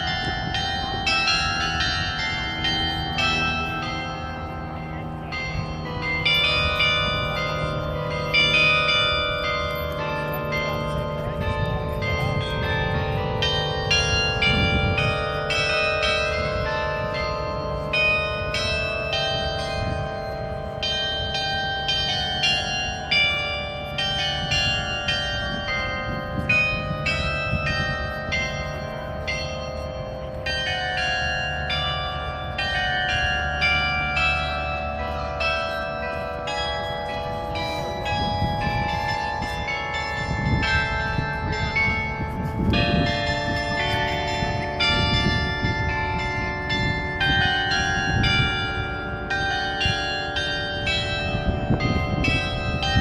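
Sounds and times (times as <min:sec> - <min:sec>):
carillon bells playing a tune: 0:00.0 - 0:53.0.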